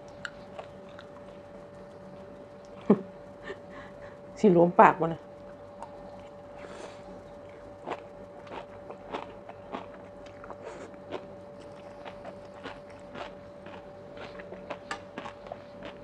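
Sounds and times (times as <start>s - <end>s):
close chewing wet crunches: 0.0s - 2.8s, 5.8s - 16.0s.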